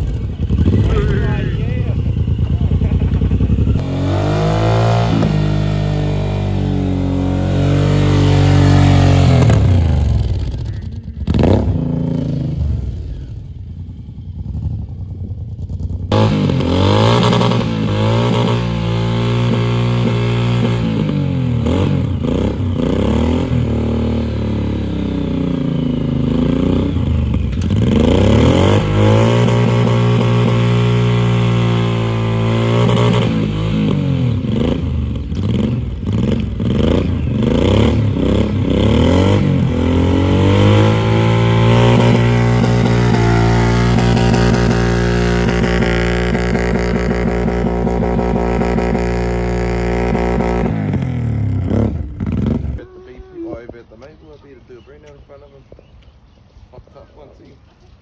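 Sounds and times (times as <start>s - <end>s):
engine revving: 0.0s - 52.9s.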